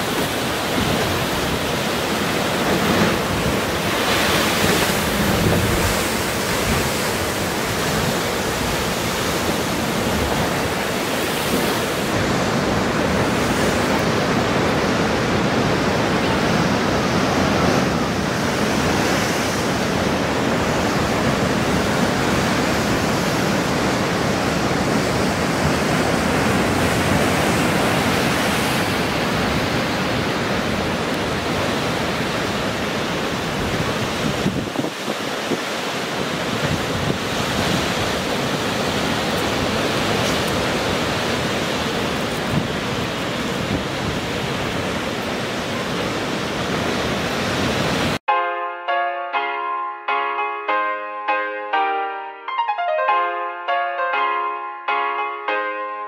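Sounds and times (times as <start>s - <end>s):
ocean surf over rocks: 0.0s - 48.2s.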